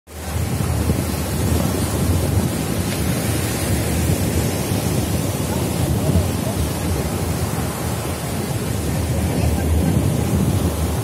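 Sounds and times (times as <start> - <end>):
waves breaking on beach: 0.1 - 11.0
wind buffeting microphone: 0.1 - 11.0.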